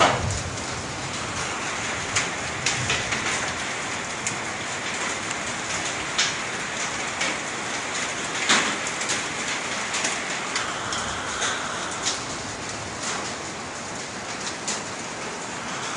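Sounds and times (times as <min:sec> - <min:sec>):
rain pattering: 0:00.0 - 0:15.9.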